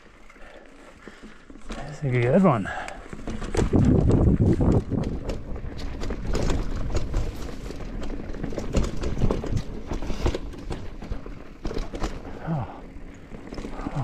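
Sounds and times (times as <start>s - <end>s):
bike clattering over rocks: 1.0s - 14.0s.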